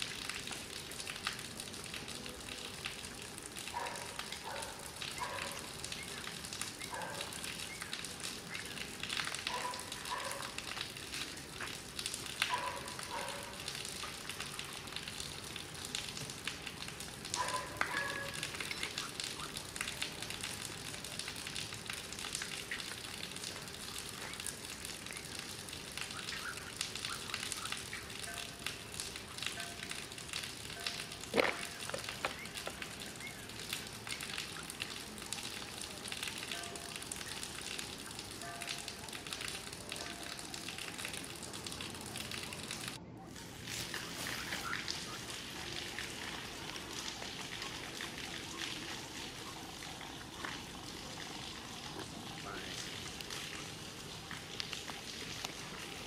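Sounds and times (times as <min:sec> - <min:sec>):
crackling hissing background noise: 0:00.0 - 0:56.0.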